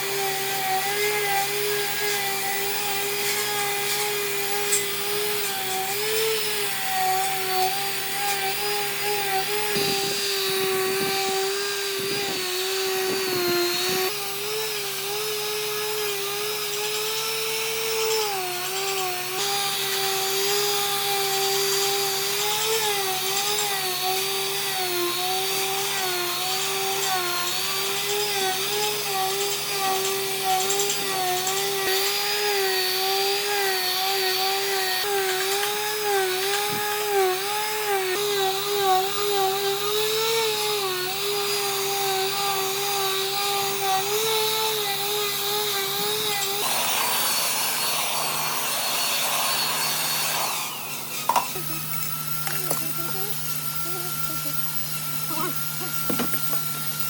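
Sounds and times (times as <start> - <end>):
power tool motor whine: 0.0 - 57.0.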